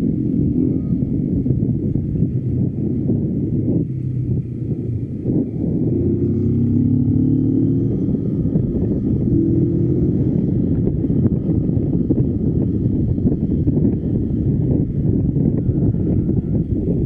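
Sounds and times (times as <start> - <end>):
motorcycle engine rumble: 0.0 - 17.0
wind noise on microphone: 0.0 - 17.0.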